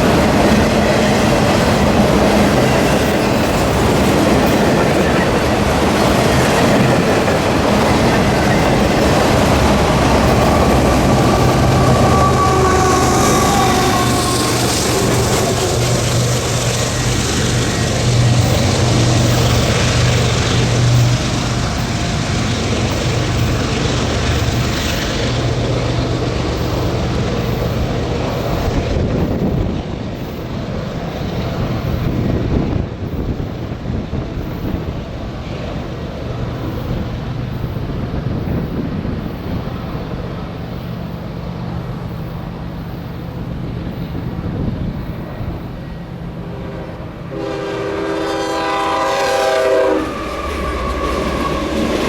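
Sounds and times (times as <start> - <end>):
freight locomotives running: 0.0 - 52.0.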